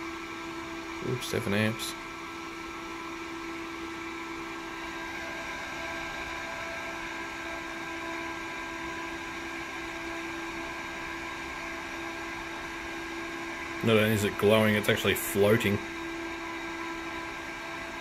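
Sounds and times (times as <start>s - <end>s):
cooling fan humming and whining: 0.0s - 18.0s.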